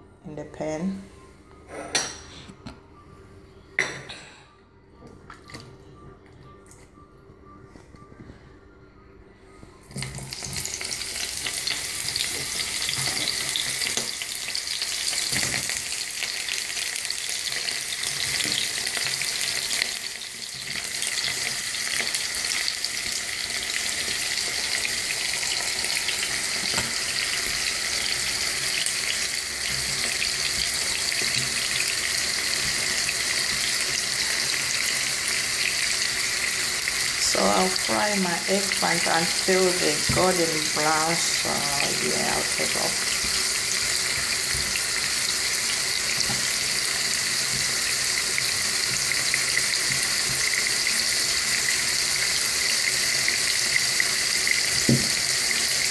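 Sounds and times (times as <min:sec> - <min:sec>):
vegetables sizzling in hot oil: 0:10.1 - 0:55.9.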